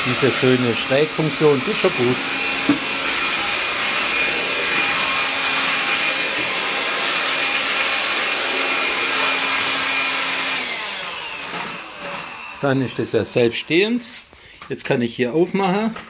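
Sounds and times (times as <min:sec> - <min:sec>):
stick vacuum whining: 0:00.0 - 0:14.8.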